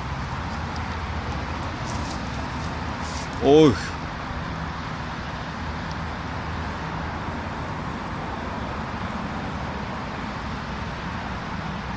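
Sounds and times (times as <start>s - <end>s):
distant city traffic: 0.0s - 11.9s.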